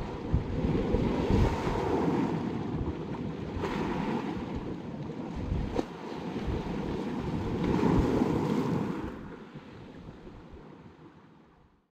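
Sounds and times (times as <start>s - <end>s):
surf washing over stones: 0.0s - 10.1s.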